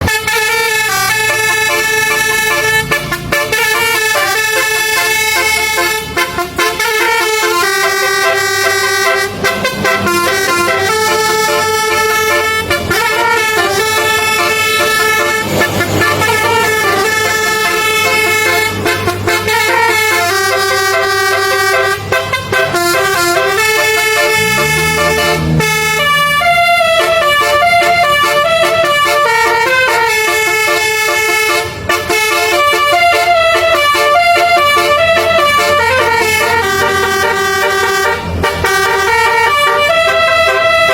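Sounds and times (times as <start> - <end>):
bus air horn playing a tune: 0.0 - 40.9.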